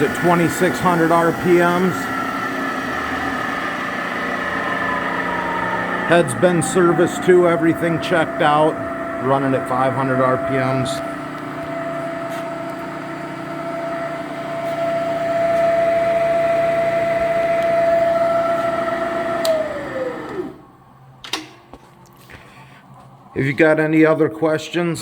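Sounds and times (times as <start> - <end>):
milling machine spindle whine: 0.0 - 20.8.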